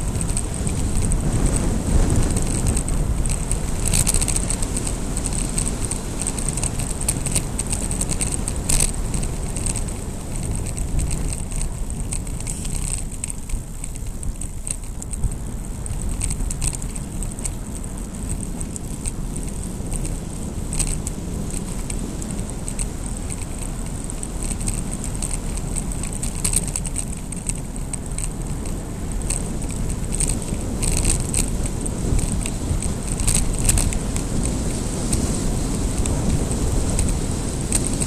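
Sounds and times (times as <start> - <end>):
bicycle clicks and rattles: 0.0 - 38.0
wind rushing over microphone: 0.0 - 38.0.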